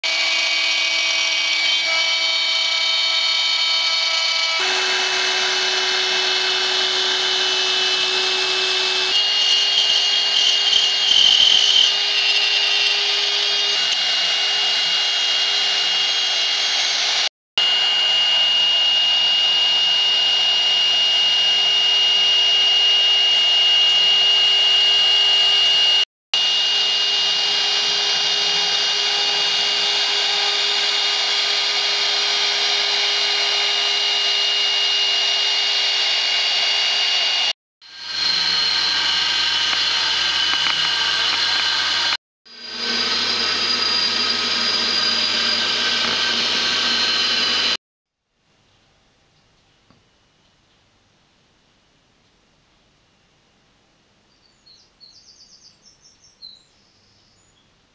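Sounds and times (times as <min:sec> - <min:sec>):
router spindle whine cutting wood: 0:00.0 - 0:47.8.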